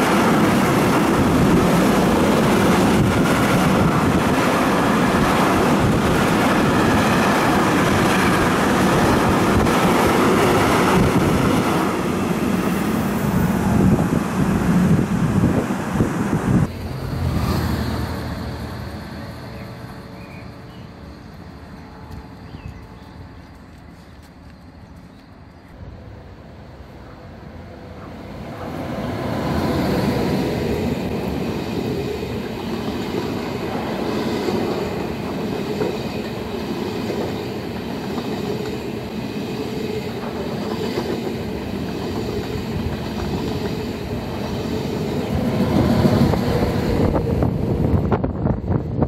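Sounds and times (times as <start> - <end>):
train wheels rumbling on rails: 0.0 - 26.1, 27.9 - 49.0.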